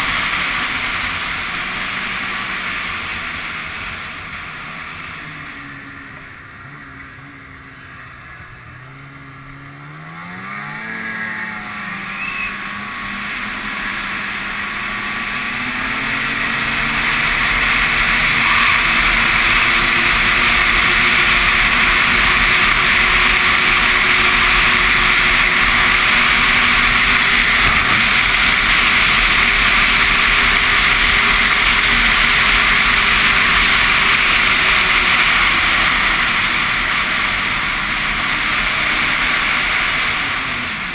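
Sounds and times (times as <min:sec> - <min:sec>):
rush of noise: 0:00.0 - 0:40.9
snowmobile engine accelerating: 0:00.0 - 0:40.9.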